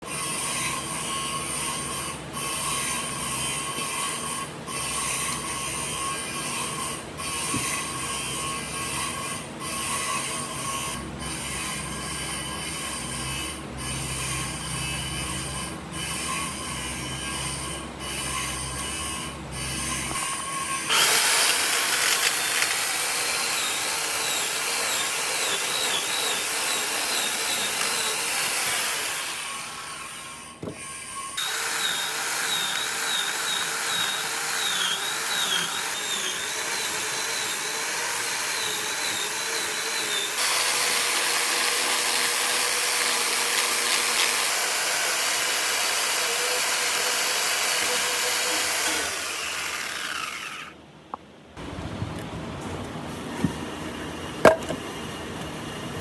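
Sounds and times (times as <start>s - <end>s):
woodworking power tools running: 0.0s - 50.8s.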